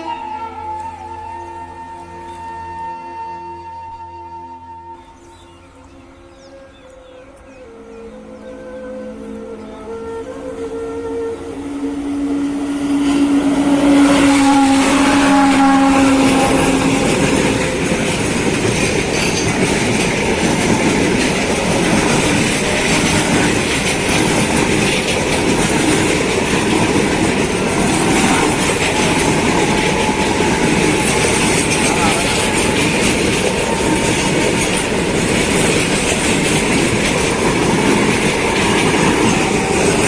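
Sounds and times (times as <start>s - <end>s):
train horn: 0.0s - 40.0s
train wheels rumbling on rails: 5.2s - 40.0s.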